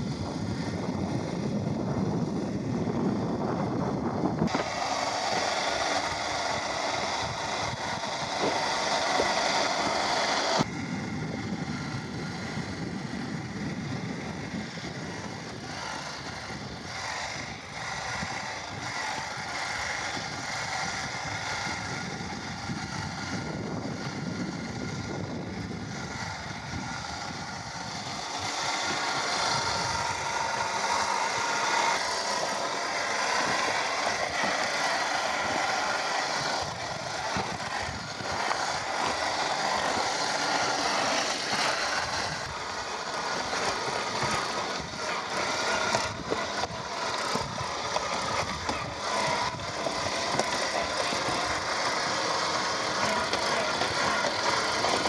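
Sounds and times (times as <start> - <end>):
toy car motor whining: 0.0 - 55.0.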